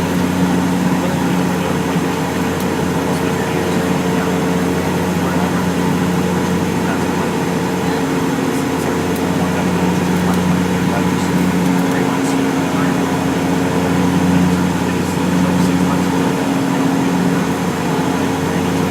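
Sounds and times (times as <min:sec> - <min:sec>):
air-conditioning rush: 0:00.0 - 0:18.9
airliner engine hum: 0:00.0 - 0:18.9
constant low tones: 0:00.0 - 0:18.9.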